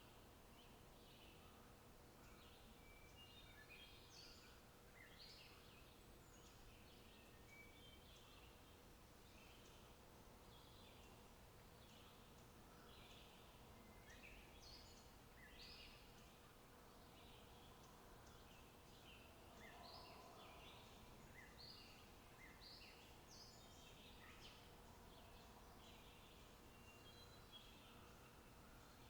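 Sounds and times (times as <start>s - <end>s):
faint birdsong: 0.0s - 29.0s
faint outdoor noise: 0.0s - 29.0s.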